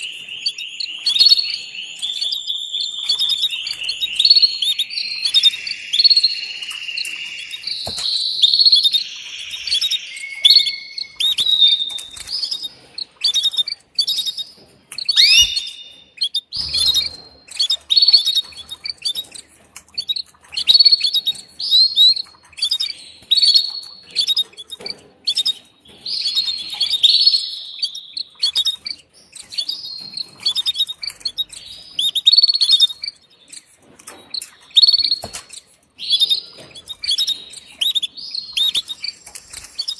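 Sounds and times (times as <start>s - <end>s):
canary chirping call: 0.0s - 39.9s.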